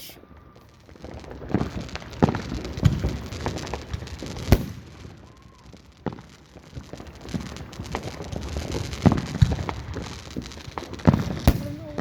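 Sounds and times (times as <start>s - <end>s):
fireworks bangs: 0.0s - 12.0s
fireworks booms: 0.0s - 12.0s
fireworks crackling: 0.0s - 12.0s.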